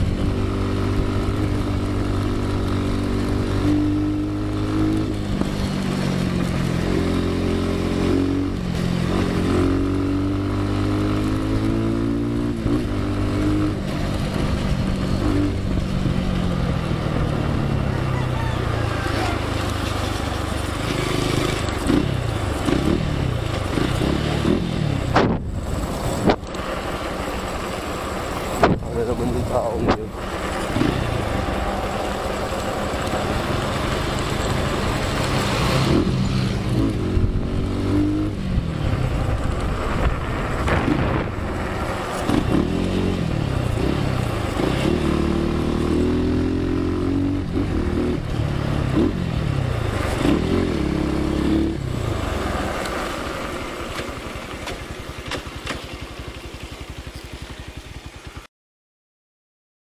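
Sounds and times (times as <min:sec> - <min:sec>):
motorcycle engine revving: 0:00.0 - 0:58.5.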